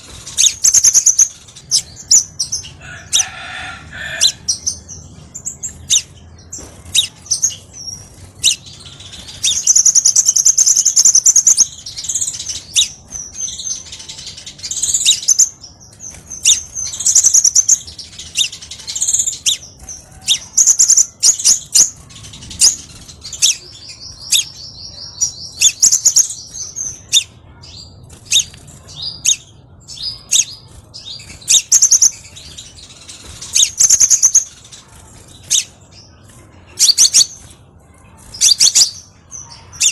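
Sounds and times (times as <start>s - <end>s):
bird twittering trills and chirps: 0.0s - 39.9s.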